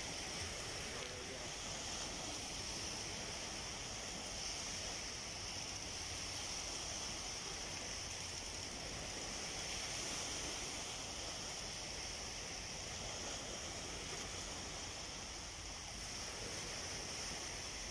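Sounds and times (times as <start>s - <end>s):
high steady hiss: 0.0s - 17.9s
small waves washing on beach: 0.0s - 17.9s.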